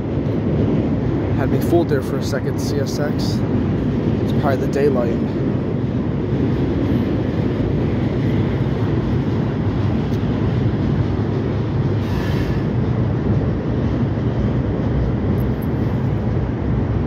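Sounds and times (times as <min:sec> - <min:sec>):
freight train rumbling over bridge: 0:00.0 - 0:17.0.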